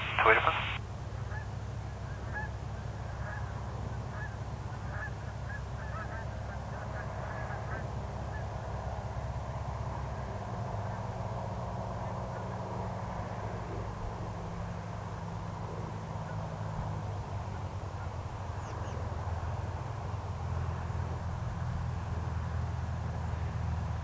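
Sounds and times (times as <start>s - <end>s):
small plane engine droning: 0.0s - 24.0s.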